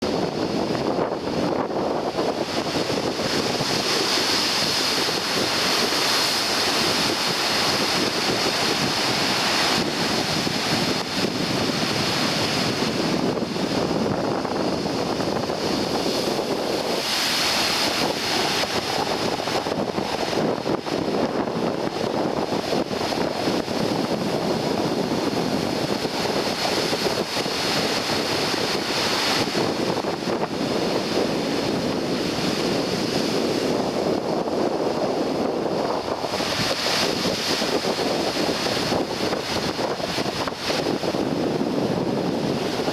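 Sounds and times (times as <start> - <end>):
rough surf breaking on shore: 0.0 - 42.9
wind buffeting microphone: 0.0 - 42.9.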